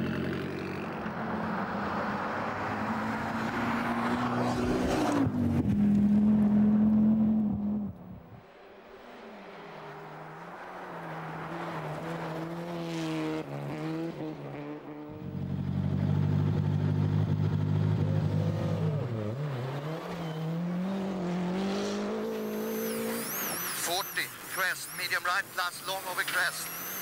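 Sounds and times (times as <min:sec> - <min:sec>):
rally car engine revving: 0:00.7 - 0:08.0, 0:11.2 - 0:27.0.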